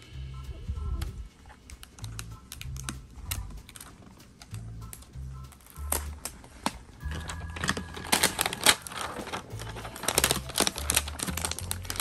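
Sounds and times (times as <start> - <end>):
plastic wrapping film crinkling: 1.5 - 12.0.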